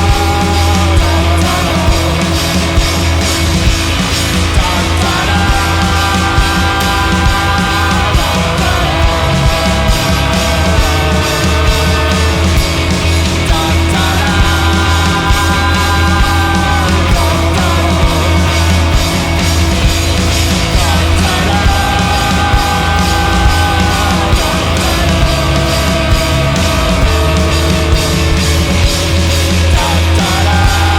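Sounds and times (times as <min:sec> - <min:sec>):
rock band playing: 0:00.0 - 0:30.9
steady drum beat: 0:00.0 - 0:30.9.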